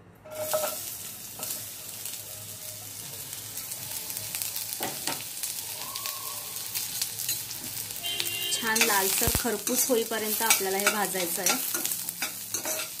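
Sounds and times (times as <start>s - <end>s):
onion and garlic sizzling in oil: 0.3s - 13.0s.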